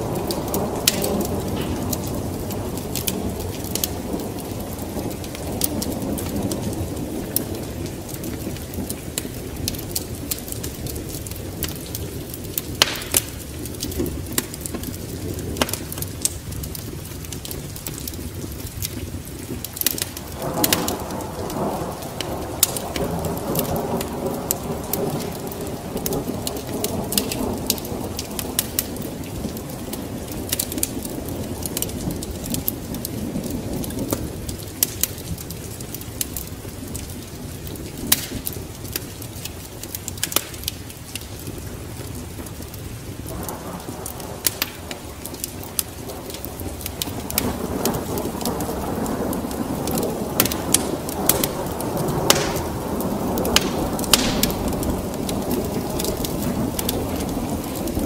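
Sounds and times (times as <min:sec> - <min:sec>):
steady rain: 0:00.0 - 0:58.0
thunder rumbling: 0:00.0 - 0:58.0
wood fire crackling: 0:00.0 - 0:58.0.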